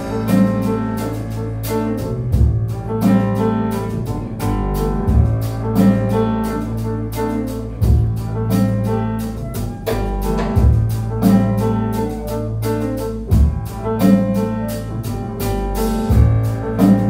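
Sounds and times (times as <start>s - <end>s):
double bass notes: 0.0s - 17.0s
piano notes: 0.0s - 17.0s.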